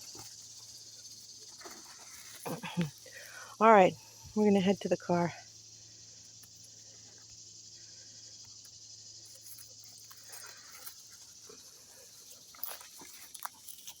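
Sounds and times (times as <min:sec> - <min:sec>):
faint rustles and ticks: 0:00.0 - 0:14.0
insects chorus: 0:00.0 - 0:14.0.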